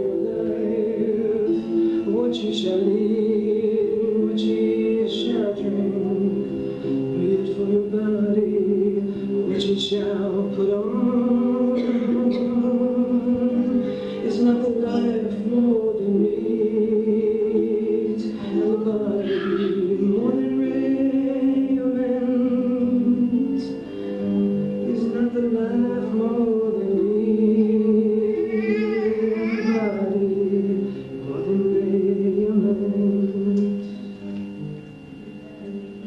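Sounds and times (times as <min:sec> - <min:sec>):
sustained chords: 0:00.0 - 0:36.0
voices singing held notes: 0:00.0 - 0:36.0.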